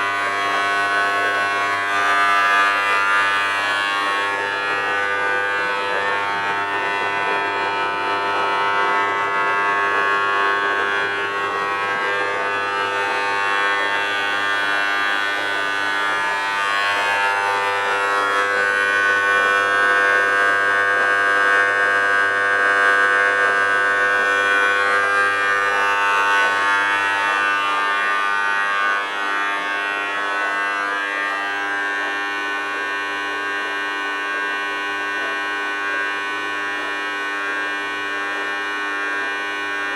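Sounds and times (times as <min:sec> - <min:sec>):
dishwasher buzzing drone: 0:00.0 - 0:39.9.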